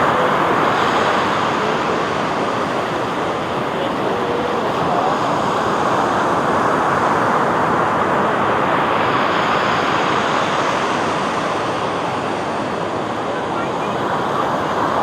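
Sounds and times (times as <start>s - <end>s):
sea surf washing onto beach: 0.0s - 15.0s.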